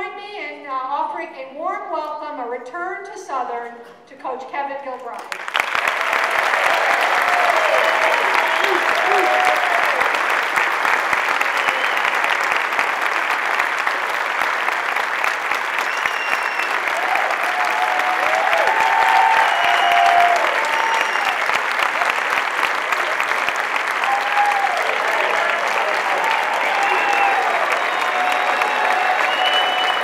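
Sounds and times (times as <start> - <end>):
audience applauding: 5.2 - 30.0.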